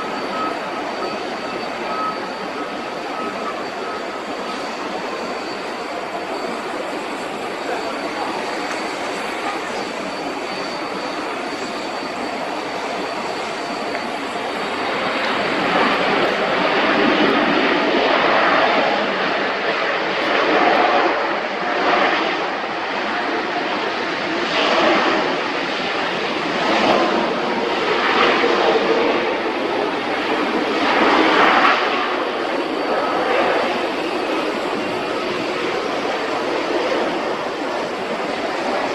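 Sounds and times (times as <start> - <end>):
jet engines rushing: 0.0 - 38.9.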